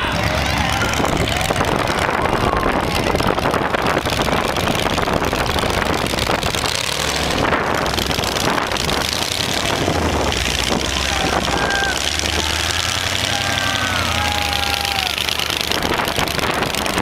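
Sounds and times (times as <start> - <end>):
dense rushing noise: 0.0 - 17.0
loud car engine running: 0.0 - 17.0.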